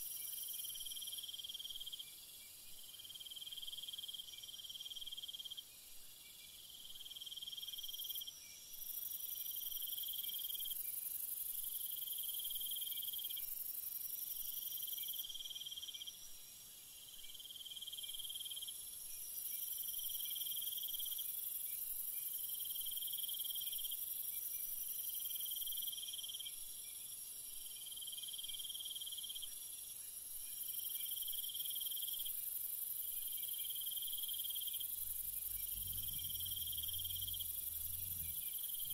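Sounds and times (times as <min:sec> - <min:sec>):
insect chirping trills: 0:00.0 - 0:38.9
high-pitched insect hiss: 0:06.6 - 0:38.9.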